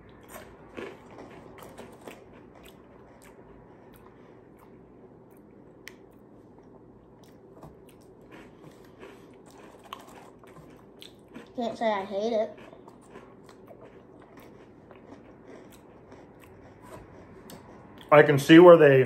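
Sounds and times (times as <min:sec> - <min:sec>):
crunching and chewing crackers: 0:00.0 - 0:18.5.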